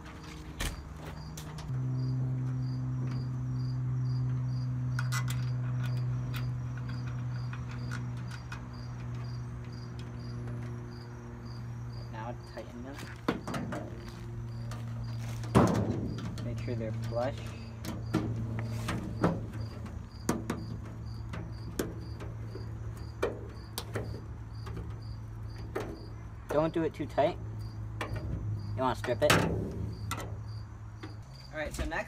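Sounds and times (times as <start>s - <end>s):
insect chirping: 0.2s - 32.0s.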